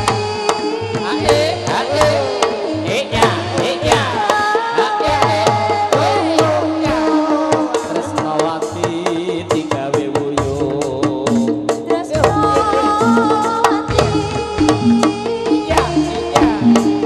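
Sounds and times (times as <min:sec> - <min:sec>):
sliding melody line: 0:00.0 - 0:09.4, 0:10.6 - 0:17.0.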